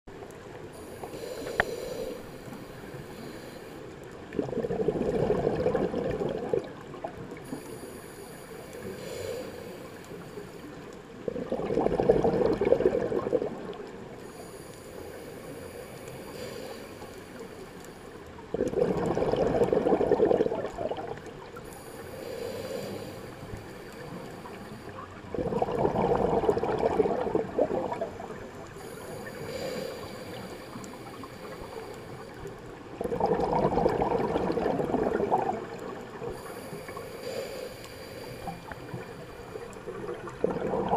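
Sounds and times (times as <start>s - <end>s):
scuba exhaled bubbles gurgling: 0.1s - 40.9s.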